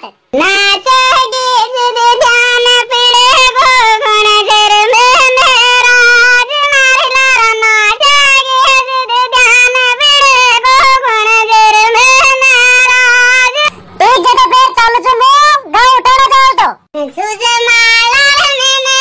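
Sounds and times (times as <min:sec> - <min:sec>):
high-pitched voice singing: 0:00.0 - 0:19.0.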